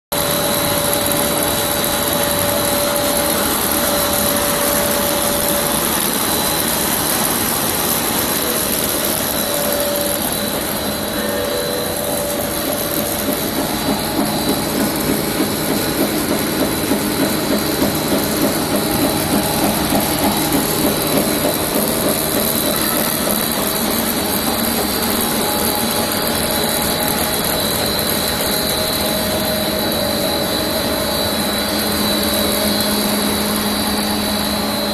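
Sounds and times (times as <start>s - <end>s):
high mechanical whine: 0.1s - 34.9s
machinery running: 0.1s - 34.9s
rhythmic mechanical pulsing: 0.1s - 34.9s.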